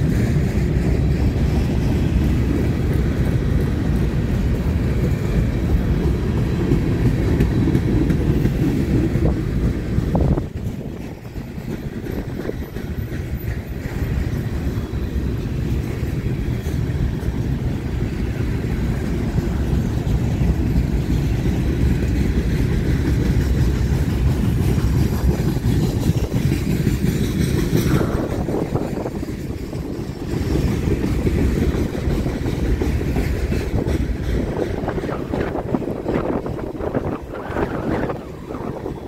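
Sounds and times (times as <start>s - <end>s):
train wheel clicks: 0.0s - 39.0s
train wheels rumbling on rails: 0.0s - 39.0s.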